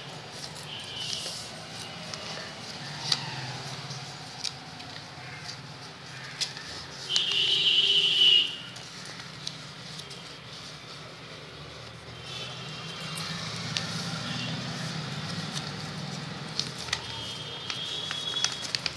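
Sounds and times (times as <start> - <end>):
paper being folded: 0.1 - 18.9.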